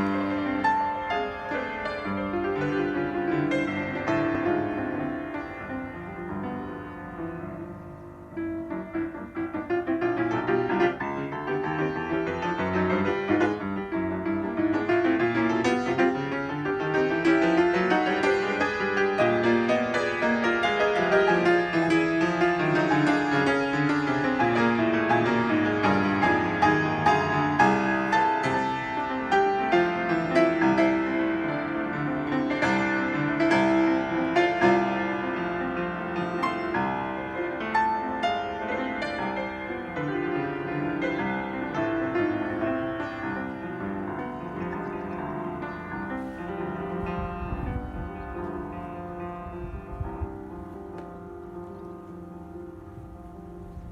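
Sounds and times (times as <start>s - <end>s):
piano piece: 0.0s - 53.9s.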